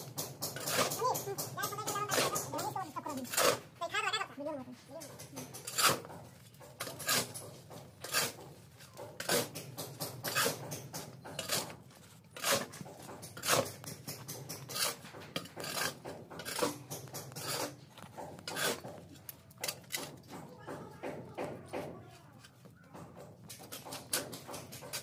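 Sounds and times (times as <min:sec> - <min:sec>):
mortar scraping on pipe: 0:00.0 - 0:04.2, 0:04.8 - 0:25.0.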